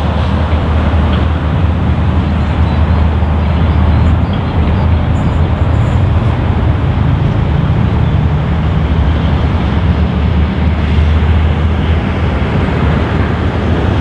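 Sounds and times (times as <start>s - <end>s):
steam locomotive rumble: 0.0s - 14.0s.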